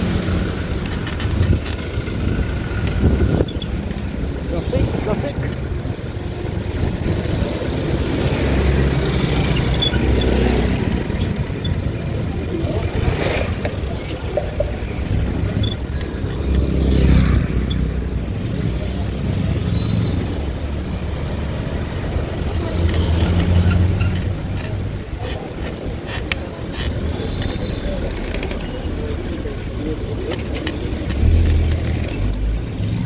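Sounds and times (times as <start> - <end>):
car engines rumbling in traffic: 0.0 - 33.0.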